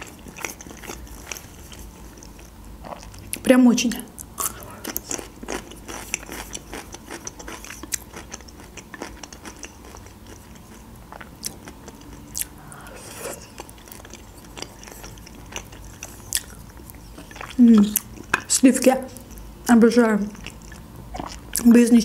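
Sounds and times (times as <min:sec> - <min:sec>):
person chewing wetly: 0:00.0 - 0:03.4, 0:04.2 - 0:18.5, 0:20.3 - 0:21.7.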